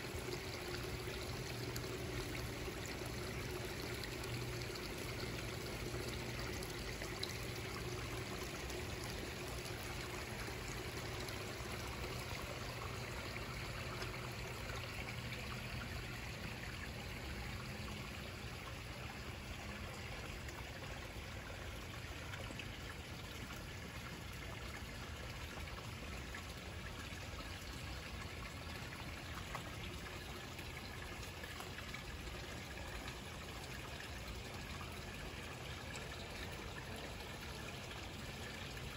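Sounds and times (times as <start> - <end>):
water trickling into a pond: 0.0 - 38.9.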